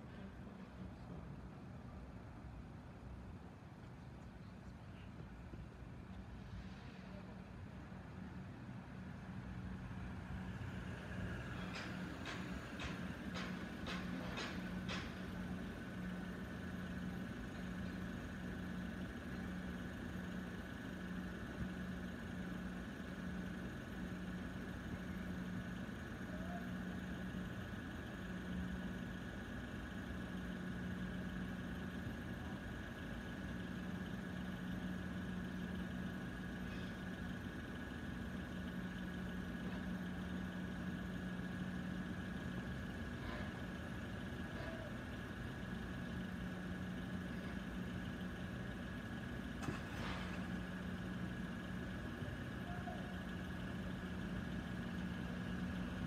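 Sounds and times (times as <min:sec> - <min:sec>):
car engines idling: 0:00.0 - 0:56.0.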